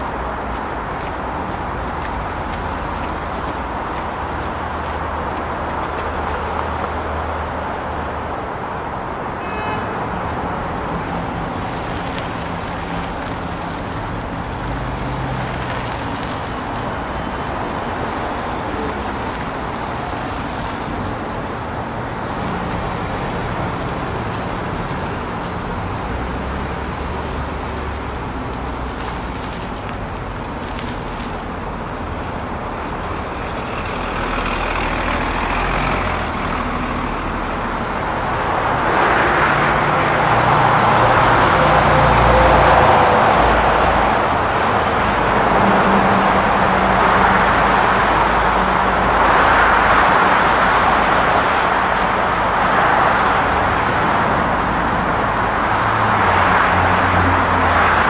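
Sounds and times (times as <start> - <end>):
traffic engine rumble: 0.0 - 58.0.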